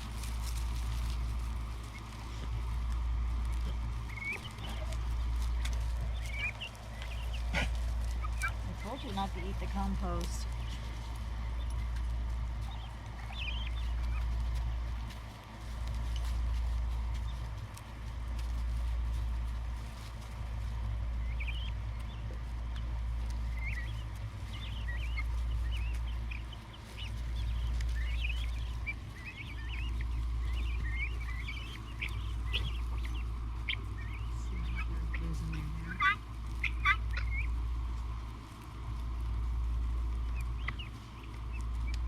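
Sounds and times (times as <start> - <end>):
guinea fowl chicks peeping: 0.0 - 42.0
low rumble: 0.0 - 42.0.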